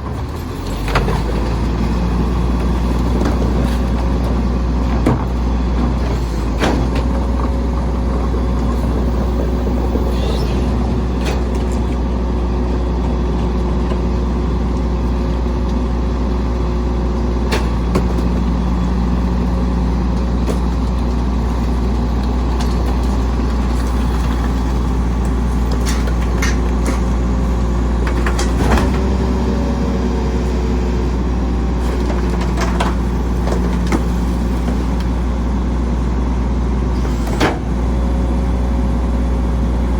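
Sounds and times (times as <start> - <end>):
garbage truck engine rumbling: 0.0 - 39.9.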